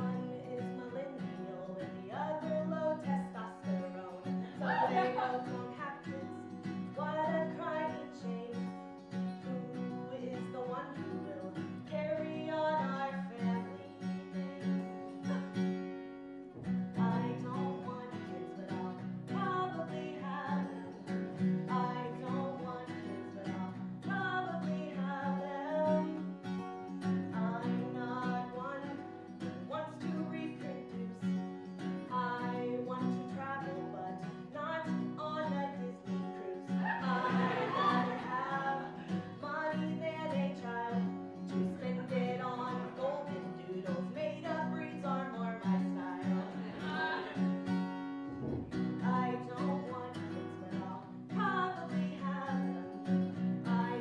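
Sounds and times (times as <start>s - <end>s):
woman singing: 0.0s - 16.0s, 16.6s - 48.1s, 48.7s - 54.0s
strummed acoustic guitar: 0.0s - 54.0s.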